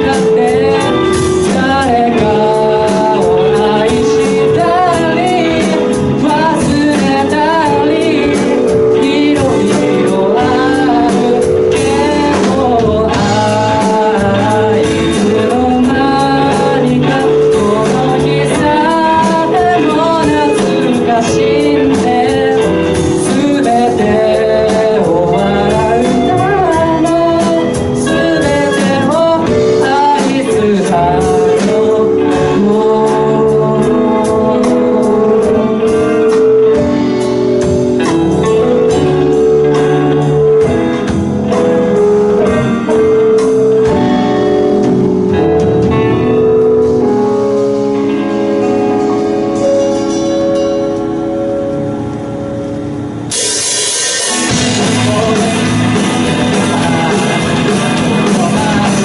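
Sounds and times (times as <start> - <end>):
keyboard chords and bass: 0.0 - 59.0
person singing: 0.0 - 59.0.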